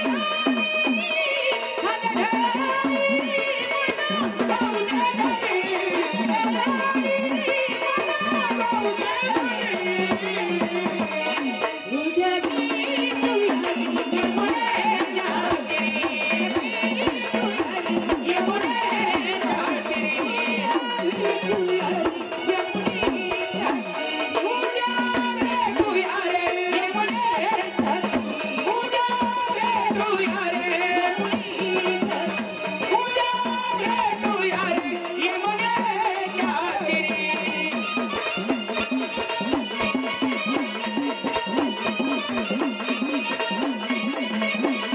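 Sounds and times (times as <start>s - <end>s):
rapid drum and percussion: 0.0s - 44.9s
woman singing: 0.0s - 44.9s.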